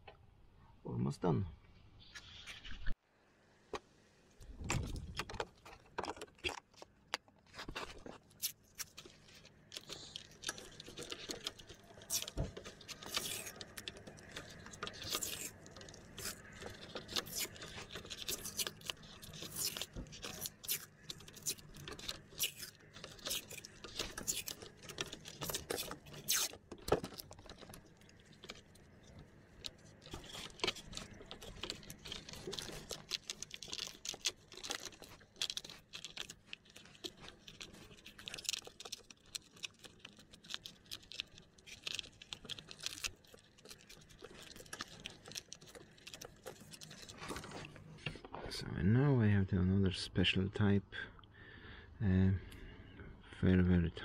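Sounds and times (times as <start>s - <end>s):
tape crackling and tearing: 4.4s - 48.1s.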